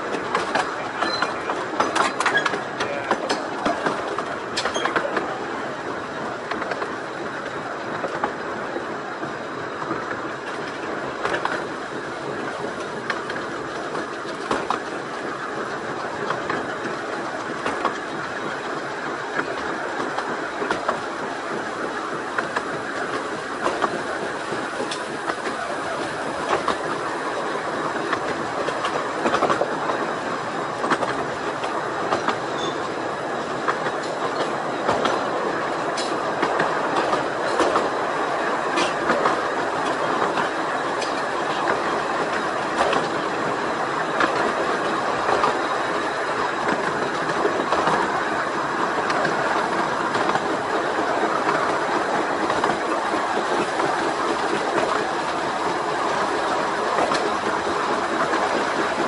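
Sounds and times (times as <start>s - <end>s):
clicks over rail joints: 0.0s - 5.4s, 6.4s - 27.0s, 27.9s - 30.1s, 30.8s - 59.0s
train wheels on rails: 0.0s - 59.0s.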